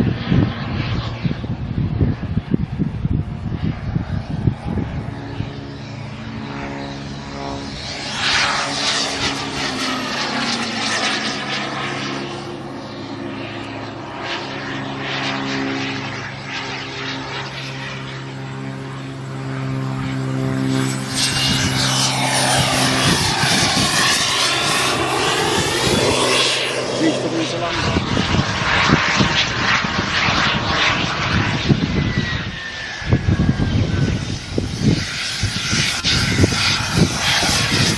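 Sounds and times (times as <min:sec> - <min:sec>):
high jet whine: 0:00.0 - 0:37.9
low pitched drone: 0:00.0 - 0:37.9
model jet roar: 0:00.0 - 0:37.9.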